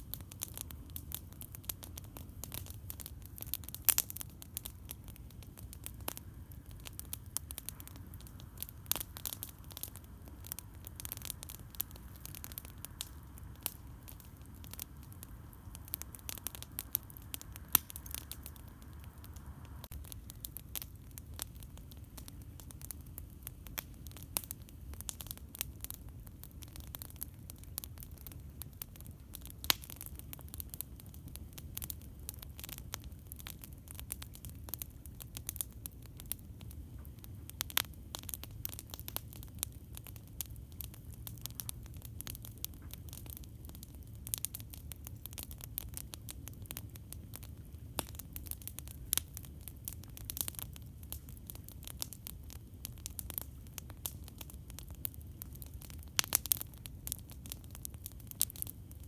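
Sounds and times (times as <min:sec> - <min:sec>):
campfire crackling and popping: 0:00.0 - 0:59.0
low steady fire rumble: 0:00.0 - 0:59.0.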